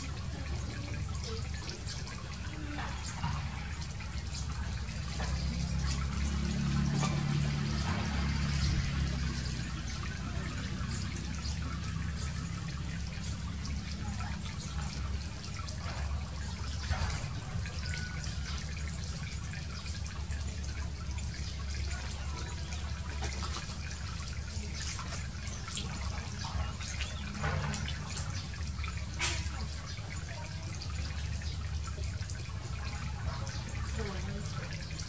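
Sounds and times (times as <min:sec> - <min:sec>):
shallow water trickling and lapping: 0:00.0 - 0:35.0
small splashes of frogs: 0:00.0 - 0:35.0.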